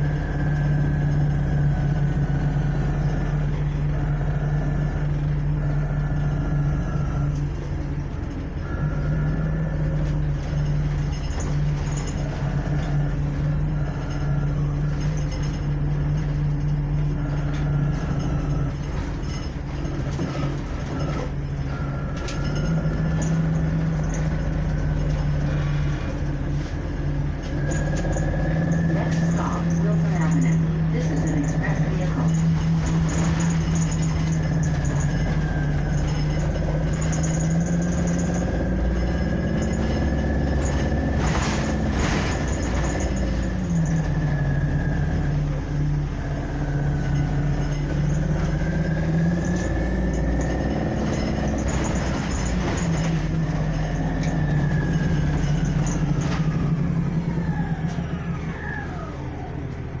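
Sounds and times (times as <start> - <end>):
bus engine whine: 0.0 - 60.0
short rattle: 0.1 - 58.2.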